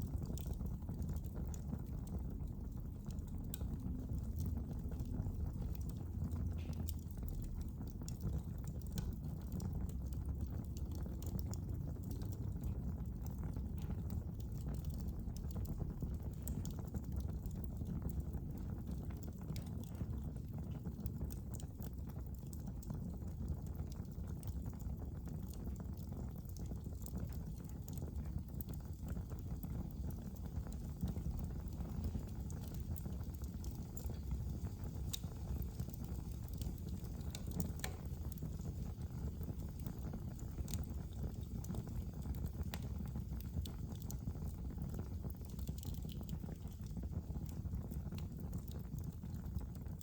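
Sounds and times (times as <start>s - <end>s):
fire crackling and popping: 0.0s - 50.0s
wood fire rumbling: 0.0s - 50.0s.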